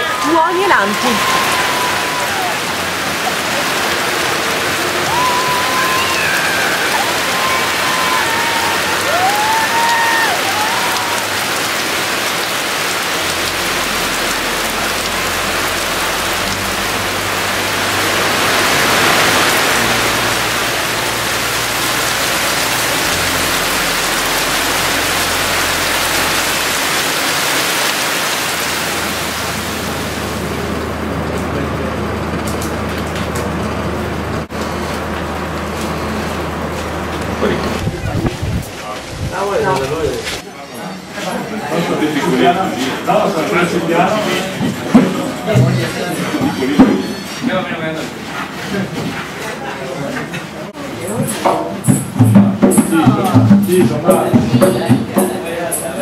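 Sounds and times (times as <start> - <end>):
water running off roof: 0.0 - 40.5, 41.2 - 56.0
heavy rain on foliage and roof: 0.0 - 55.9.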